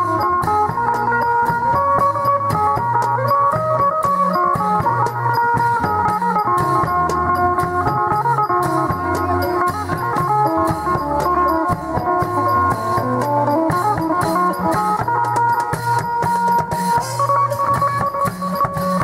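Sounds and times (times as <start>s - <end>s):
drums beating: 0.0s - 19.0s
held-note melody: 0.0s - 19.0s
small hand cymbals: 0.0s - 19.0s.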